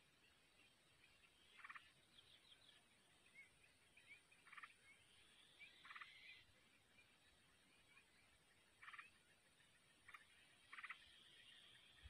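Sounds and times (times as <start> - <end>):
soft high bird chirps: 0.0 - 12.0.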